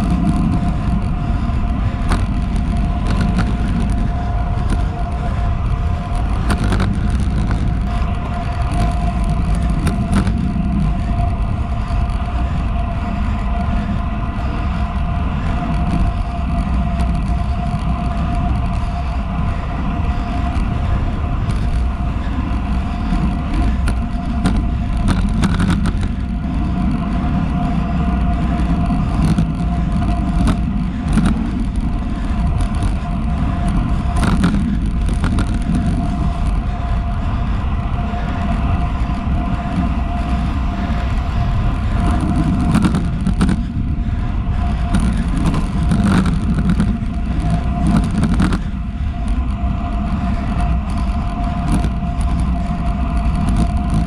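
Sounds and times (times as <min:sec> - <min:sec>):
scattered clicks: 0:00.0 - 0:37.3, 0:38.2 - 0:54.0
bicycle tyre roar: 0:00.0 - 0:54.0
faint hum: 0:00.0 - 0:54.0
wind rushing over camera: 0:00.0 - 0:54.0.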